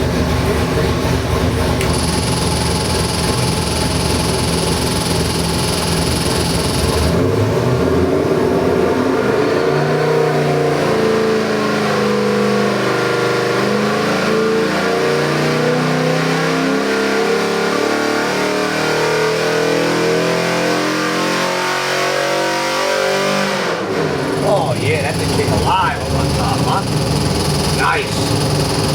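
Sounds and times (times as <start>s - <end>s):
engine revving: 0.0s - 28.9s.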